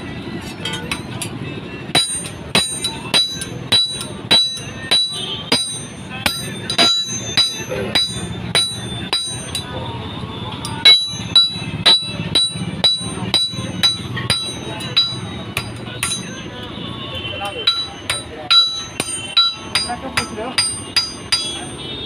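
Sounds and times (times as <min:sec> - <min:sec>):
hammer striking iron: 0:00.4 - 0:09.8, 0:10.6 - 0:16.4, 0:17.5 - 0:21.8.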